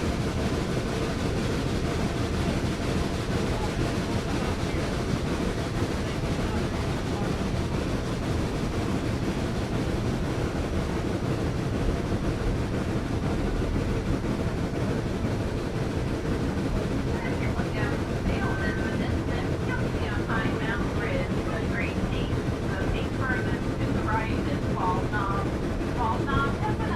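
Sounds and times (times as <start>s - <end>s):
train rumbling from aboard: 0.0s - 26.9s
wind noise: 0.0s - 26.9s.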